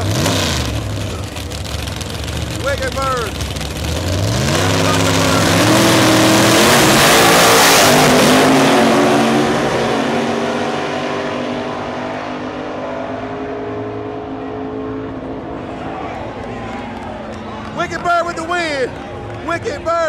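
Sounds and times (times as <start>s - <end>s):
drag car engines at full throttle: 0.0s - 20.0s.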